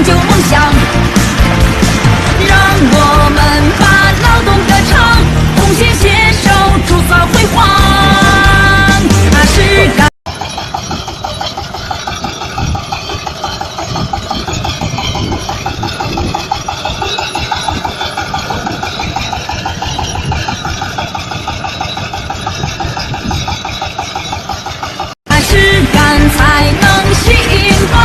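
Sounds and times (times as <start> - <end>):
rapid machinery clatter: 0.0 - 28.0
tractor engine running: 0.0 - 28.0.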